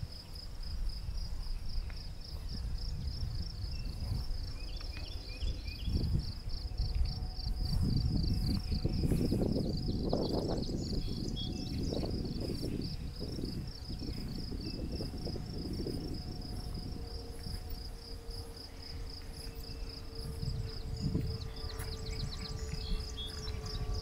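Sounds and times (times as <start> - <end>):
crickets chirping: 0.0 - 24.0
low rumbling noise: 0.0 - 24.0.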